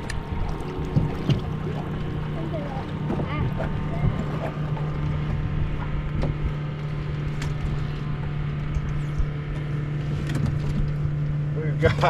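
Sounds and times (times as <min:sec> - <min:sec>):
electric motor hum: 0:00.0 - 0:11.6
wind rumble on microphone: 0:00.0 - 0:12.0.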